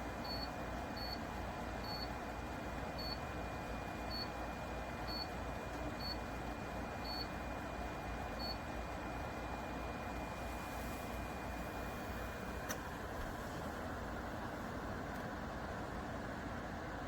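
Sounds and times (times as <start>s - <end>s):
dehumidifier fan hum: 0.0s - 17.0s.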